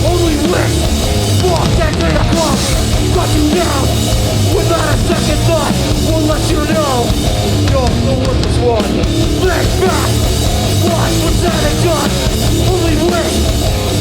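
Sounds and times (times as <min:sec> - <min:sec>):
drums: 0:00.0 - 0:14.0
hardcore band playing live: 0:00.0 - 0:14.0.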